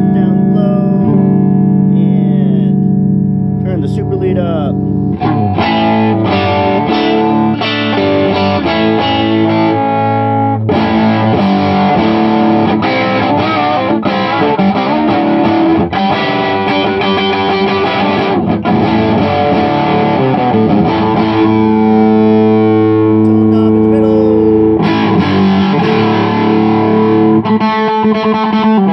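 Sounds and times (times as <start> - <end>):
distorted electric guitar: 0.0 - 28.9.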